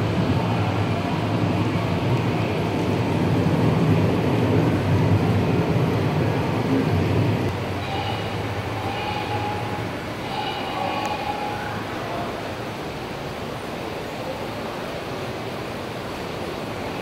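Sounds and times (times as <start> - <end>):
model train rumbling on track: 0.0 - 17.0.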